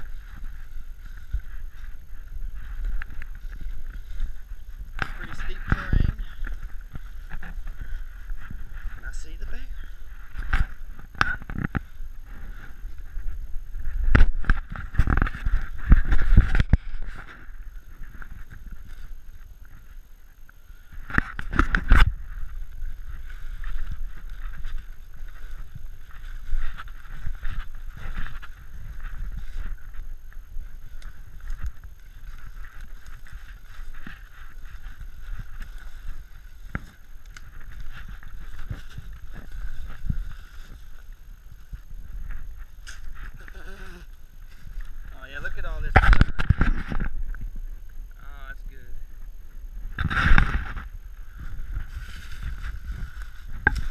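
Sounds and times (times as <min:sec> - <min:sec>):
footsteps crunching through dry leaves: 0:00.0 - 0:20.0, 0:20.7 - 0:46.0, 0:48.7 - 0:53.9
camera movement rumble: 0:00.0 - 0:53.9.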